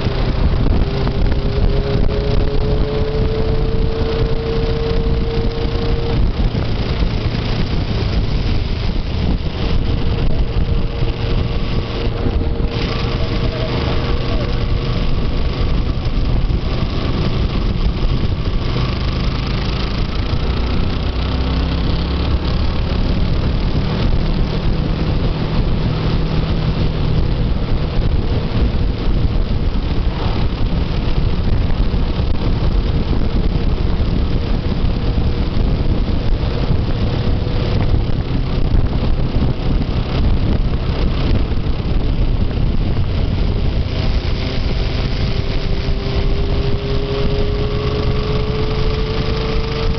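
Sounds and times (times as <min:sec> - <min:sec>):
low rushing noise: 0:00.0 - 0:49.9
motorcycle engine running: 0:00.0 - 0:49.9.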